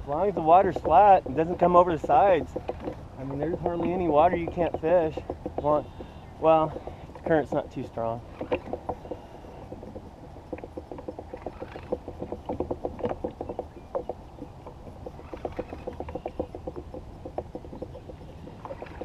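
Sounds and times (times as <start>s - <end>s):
low steady rumble: 0.0s - 19.0s
water slapping boat hull: 0.0s - 19.0s.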